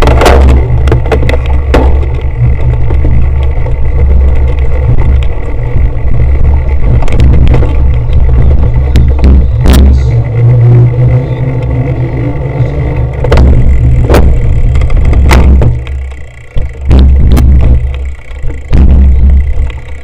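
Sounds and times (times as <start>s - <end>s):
bike knocking and rattling: 0.0s - 20.0s
heavy wind rumble on microphone: 0.0s - 20.0s.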